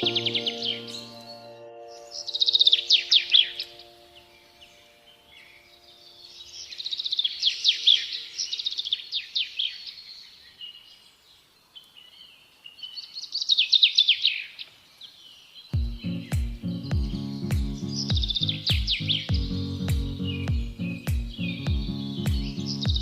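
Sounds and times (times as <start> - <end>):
songbird chirping: 0.0 - 23.0.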